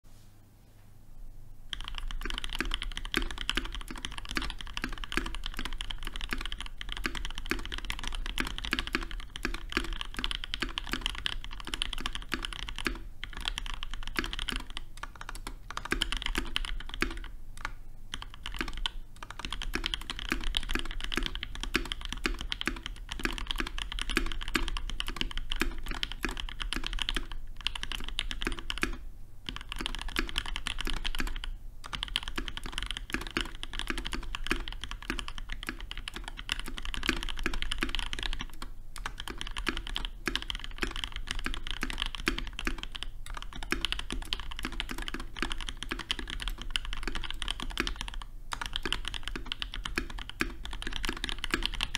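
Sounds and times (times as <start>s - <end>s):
mechanical keyboard typing: 1.7s - 51.9s.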